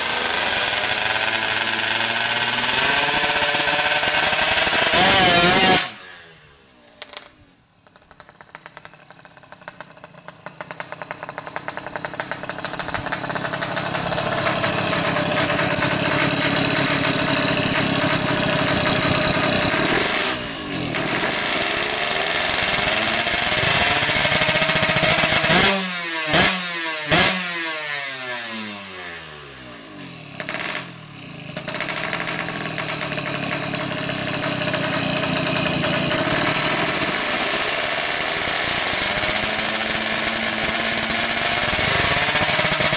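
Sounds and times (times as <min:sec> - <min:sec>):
two-stroke motorcycle engine revving: 0:00.0 - 0:07.3, 0:07.9 - 0:42.9.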